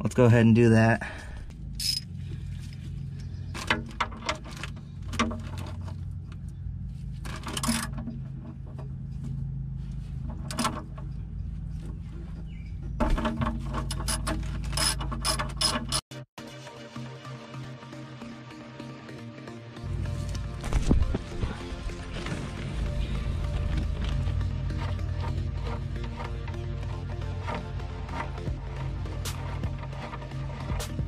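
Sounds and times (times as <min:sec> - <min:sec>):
steady low hum: 0:00.9 - 0:15.5, 0:19.8 - 0:31.0.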